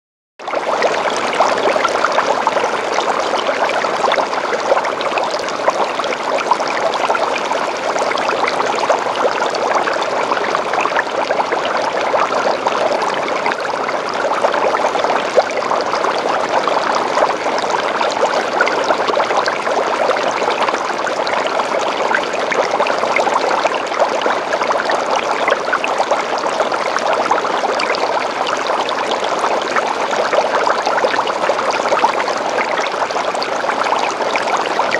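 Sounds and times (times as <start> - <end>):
aquarium water pouring and bubbling: 0.4 - 34.9.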